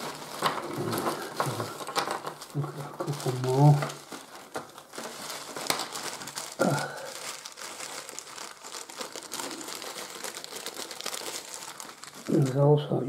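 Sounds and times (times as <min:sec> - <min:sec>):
plastic bag crinkling: 0:00.0 - 0:13.0
small pieces shifting in bag: 0:00.0 - 0:13.0.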